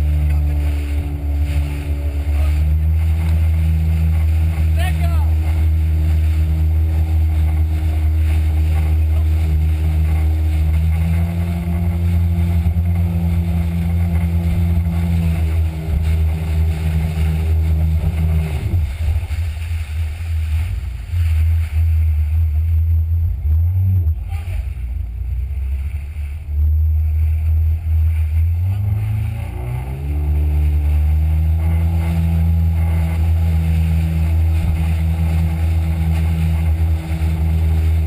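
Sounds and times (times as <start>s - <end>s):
jet ski engine running: 0.0s - 38.0s.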